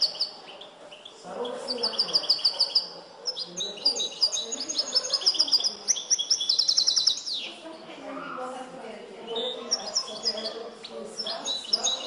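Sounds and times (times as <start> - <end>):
goldfinch singing trills: 0.0 - 7.6, 9.2 - 12.0.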